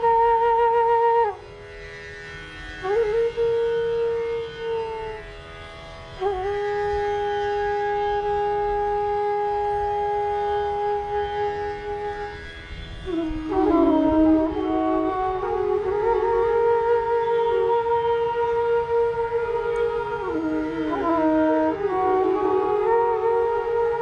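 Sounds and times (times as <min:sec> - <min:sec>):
bamboo flute long notes: 0:00.0 - 0:24.0.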